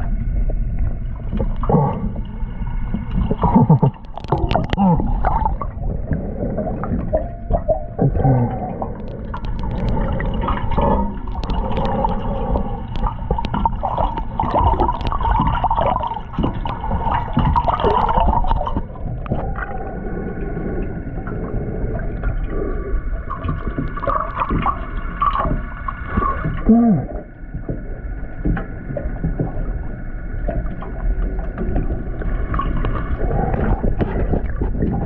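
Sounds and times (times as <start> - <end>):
steady multi-tone hum: 0.0 - 35.0
underwater gurgling and sloshing: 0.0 - 35.0.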